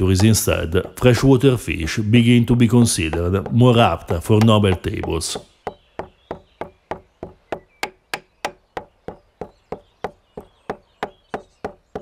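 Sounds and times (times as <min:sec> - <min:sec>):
pestle knocking in stone mortar: 0:00.0 - 0:12.0.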